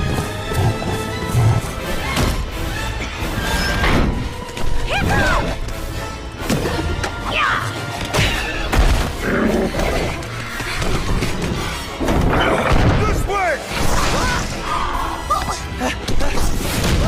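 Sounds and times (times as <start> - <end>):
orchestral score: 0.0 - 17.0.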